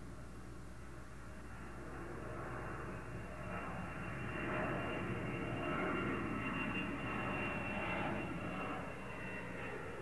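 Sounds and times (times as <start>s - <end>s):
jet airliner flying overhead: 0.0s - 10.0s.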